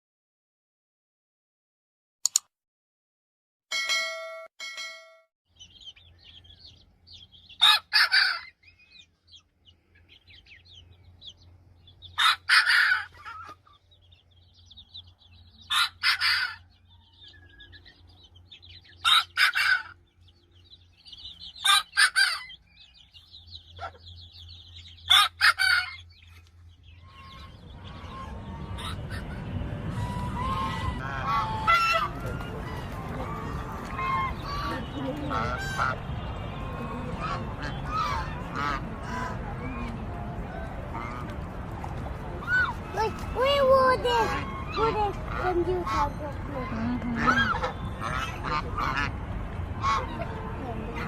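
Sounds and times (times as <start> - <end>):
small birds chirping: 5.5 - 51.0
chickens calling: 5.6 - 51.0.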